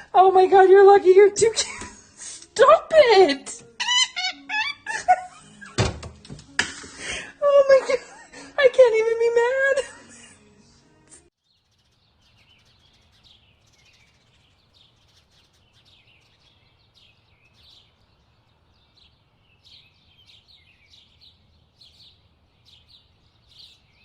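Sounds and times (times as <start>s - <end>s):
birds chirping: 0.0s - 10.8s, 11.4s - 24.0s.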